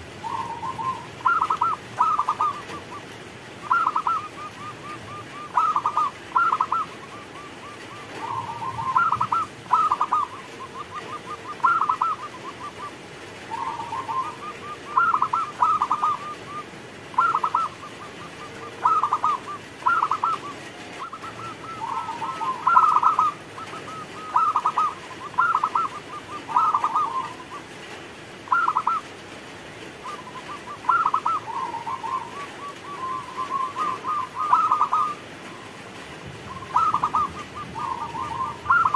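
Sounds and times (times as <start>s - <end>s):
dove cooing trills: 0.0s - 29.2s, 29.9s - 38.9s.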